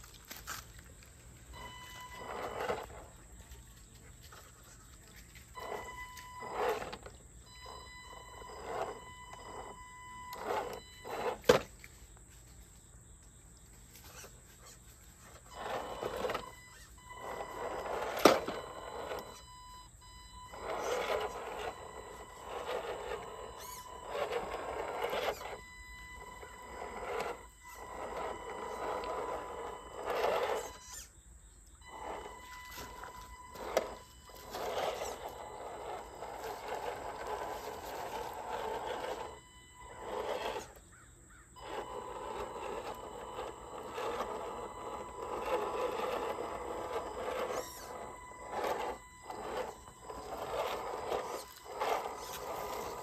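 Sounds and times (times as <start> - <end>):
electric motor and gearbox whining: 1.4 - 11.9, 13.9 - 53.0.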